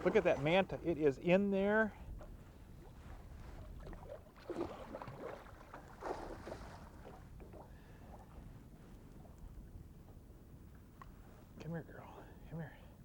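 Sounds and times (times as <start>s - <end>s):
water splashing against boat: 0.0s - 11.4s.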